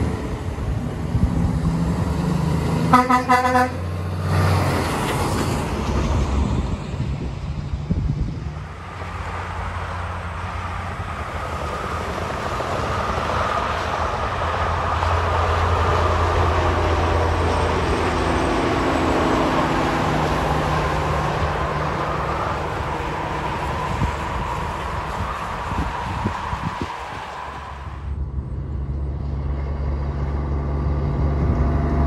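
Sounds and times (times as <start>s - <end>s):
truck diesel engine: 0.0s - 32.0s.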